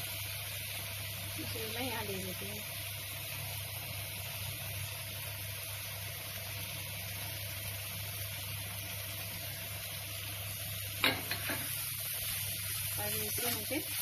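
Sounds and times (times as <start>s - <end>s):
sauce sizzling in a pan: 0.0s - 14.0s.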